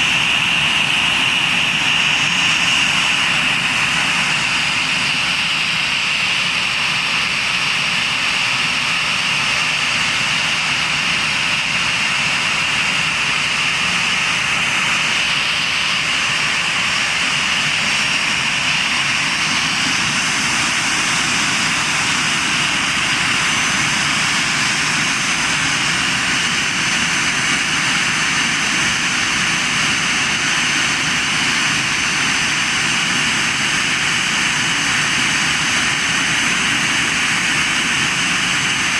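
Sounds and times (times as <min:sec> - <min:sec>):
high-pitched engine whines: 0:00.0 - 0:38.9
jet engine roaring: 0:00.0 - 0:38.9.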